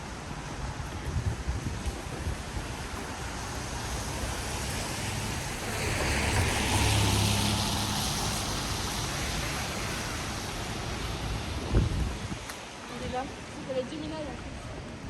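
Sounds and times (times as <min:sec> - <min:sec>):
vehicle passing on wet street: 0:00.0 - 0:14.7
rainy city noise: 0:00.0 - 0:15.0.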